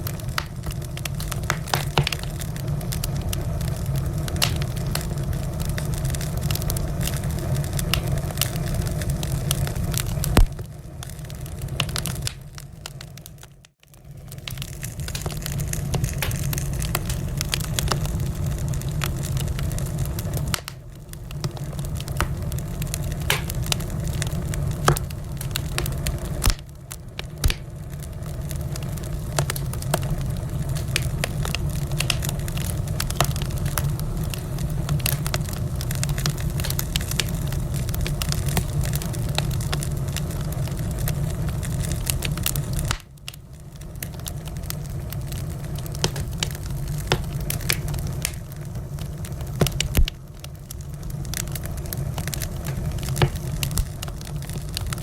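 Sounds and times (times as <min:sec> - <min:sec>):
fire crackles and pops: 0:00.0 - 0:55.0
low rumble of flames: 0:00.0 - 0:55.0.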